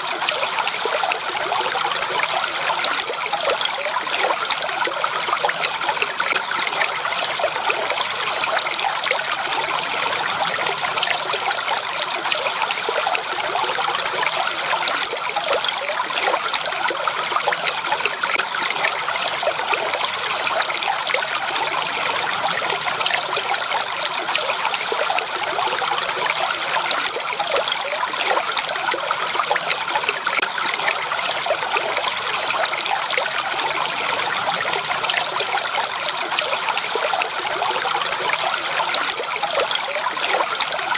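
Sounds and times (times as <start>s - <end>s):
stream water trickling and babbling: 0.0s - 40.9s.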